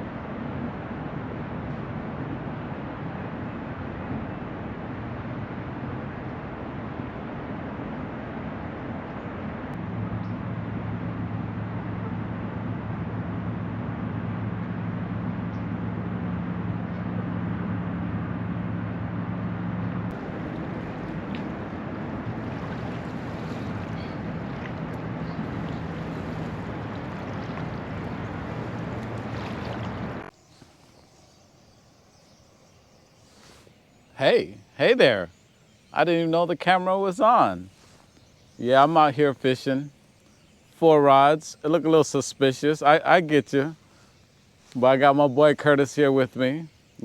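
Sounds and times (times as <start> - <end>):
motorboat engine humming: 0.0 - 47.0
wind and water noise: 0.0 - 47.0.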